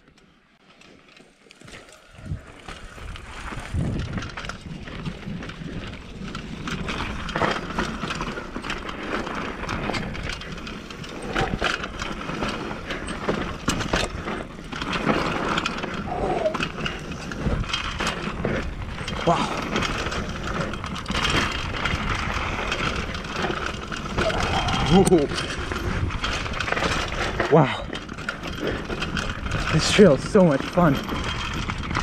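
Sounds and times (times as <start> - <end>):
bike tyres crunching on dirt: 0.0 - 32.0.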